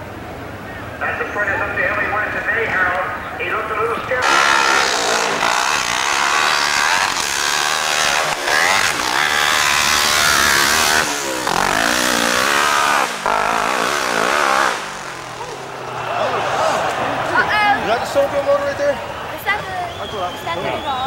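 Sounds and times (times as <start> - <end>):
motorcycle engines revving high: 0.0 - 21.0.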